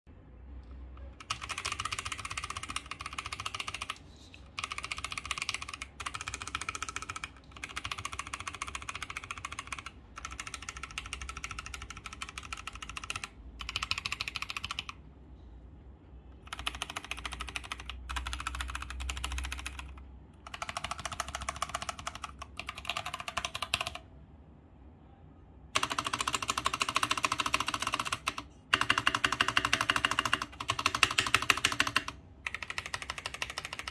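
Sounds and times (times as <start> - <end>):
mechanical keyboard typing: 1.0 - 15.0, 16.4 - 24.1, 25.8 - 33.9.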